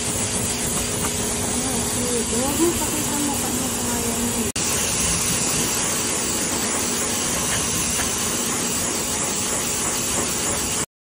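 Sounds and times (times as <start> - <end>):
pet blower rushing air: 0.0 - 10.9.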